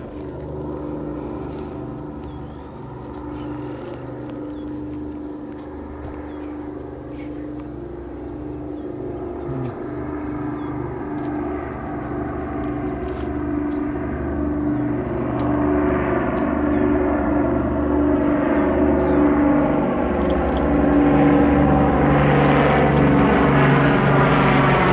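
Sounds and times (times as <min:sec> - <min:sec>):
propeller aircraft engines droning: 0:00.0 - 0:24.9.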